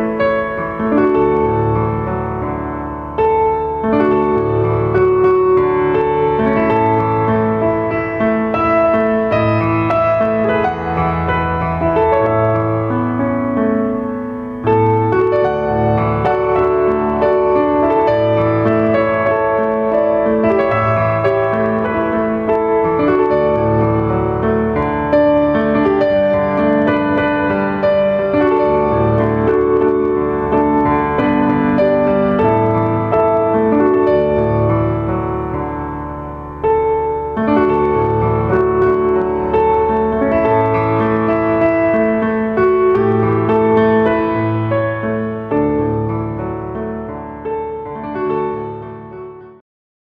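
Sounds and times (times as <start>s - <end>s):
piano music: 0.0s - 49.6s.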